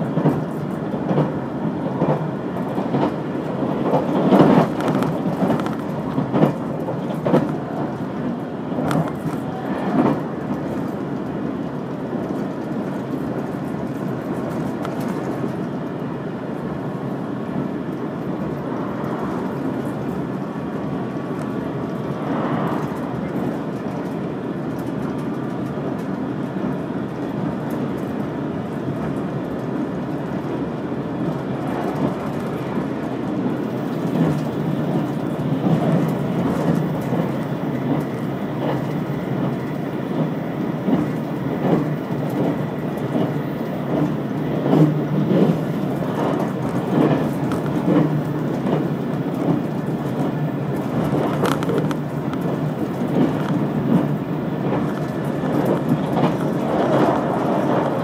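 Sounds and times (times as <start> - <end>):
wheels clacking over rail joints: 0.0 - 15.8, 18.0 - 58.0
train wheels rumbling on rail: 0.0 - 58.0.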